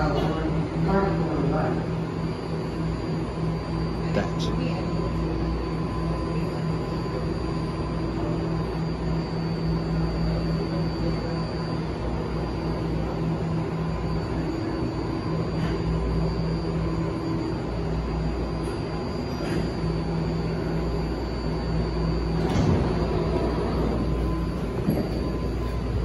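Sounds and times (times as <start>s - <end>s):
train equipment hum and whine: 0.0s - 26.0s.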